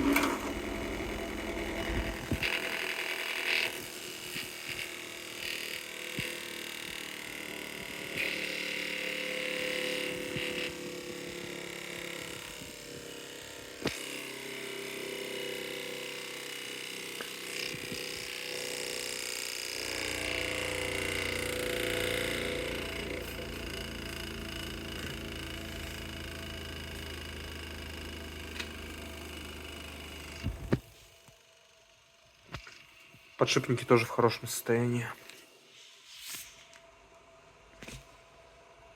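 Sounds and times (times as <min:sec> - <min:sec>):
bench grinder motor humming: 0:00.0 - 0:32.8.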